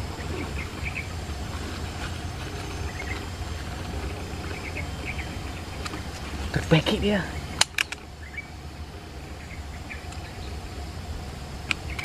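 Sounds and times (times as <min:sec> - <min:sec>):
faint bird chirps: 0:00.0 - 0:11.1
low background rumble: 0:00.0 - 0:12.0.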